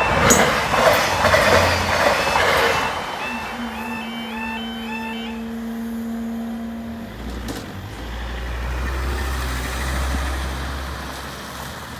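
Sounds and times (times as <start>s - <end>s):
car engine rumbling: 0.0s - 11.8s.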